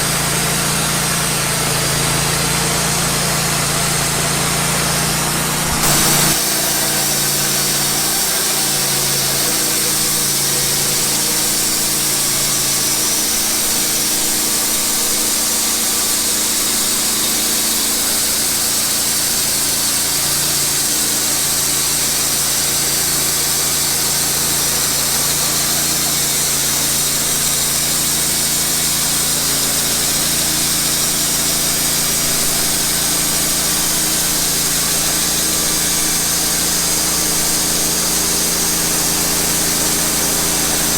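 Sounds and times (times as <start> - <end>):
band sawmill cutting a log: 0.0 - 40.9.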